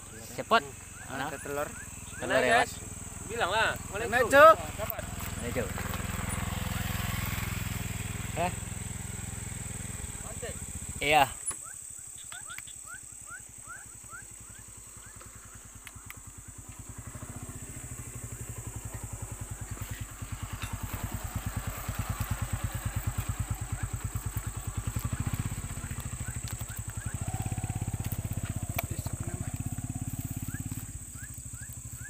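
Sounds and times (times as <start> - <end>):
motorcycle engine idling: 0.0 - 32.0.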